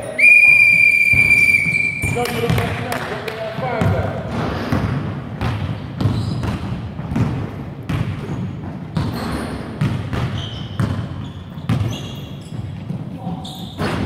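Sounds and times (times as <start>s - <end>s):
basketball bouncing on wooden floor: 1.1s - 3.0s, 3.6s - 14.0s.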